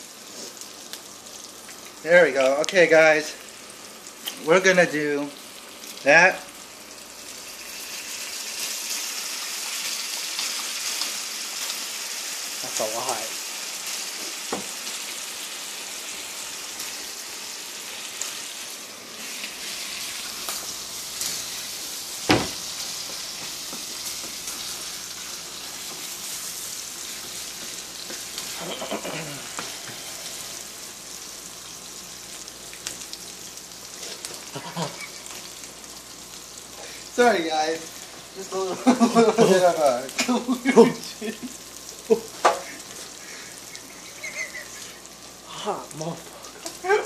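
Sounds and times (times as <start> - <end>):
meat sizzling in a frying pan: 0.0 - 47.0.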